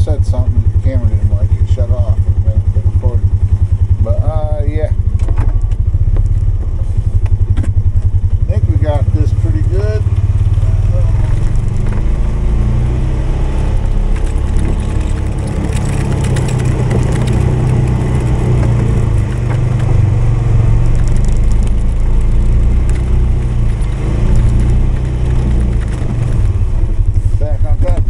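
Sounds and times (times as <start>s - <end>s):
engine running while plowing snow: 0.0s - 28.0s.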